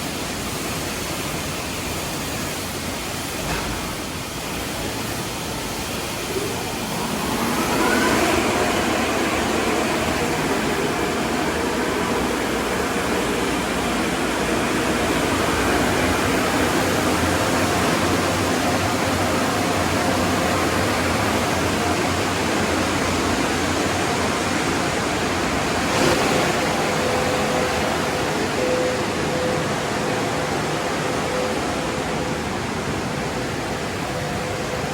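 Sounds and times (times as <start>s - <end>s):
car wash sprayers and machinery: 0.0s - 34.9s.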